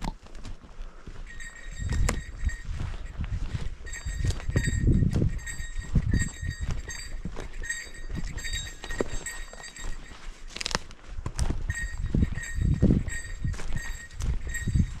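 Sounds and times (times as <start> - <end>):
low wind rumble: 1.0 - 10.1, 11.0 - 15.0
small metal bell jingling: 1.1 - 10.8, 11.6 - 15.0.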